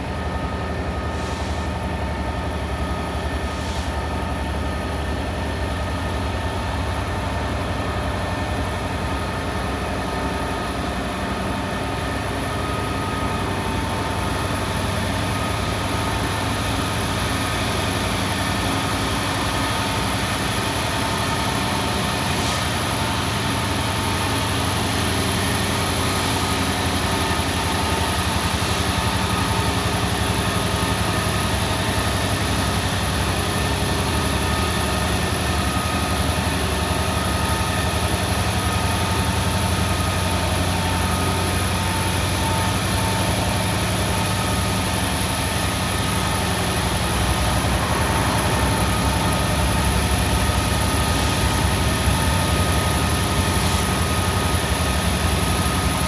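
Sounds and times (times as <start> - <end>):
freight locomotive engine rumble: 0.0 - 56.0.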